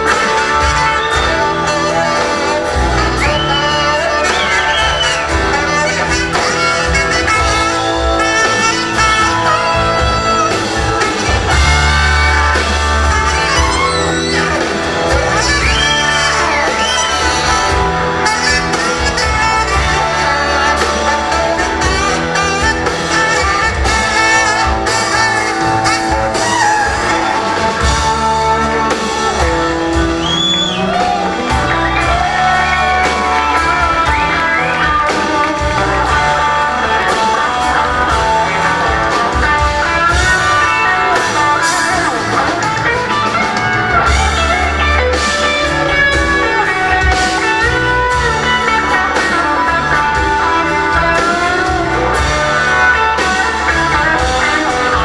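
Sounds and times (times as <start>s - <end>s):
blues band playing: 0.0s - 55.0s.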